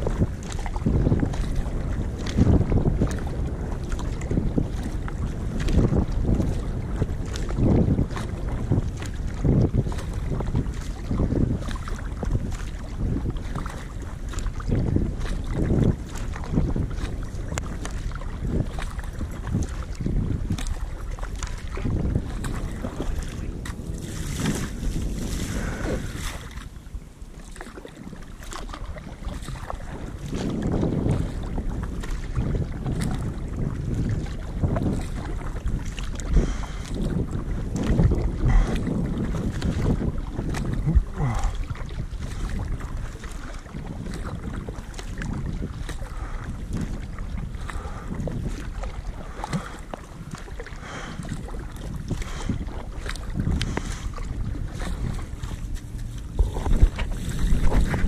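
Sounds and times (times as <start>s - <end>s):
kayak paddle splashing in water: 0.0s - 58.0s
wind noise on microphone: 0.0s - 58.0s.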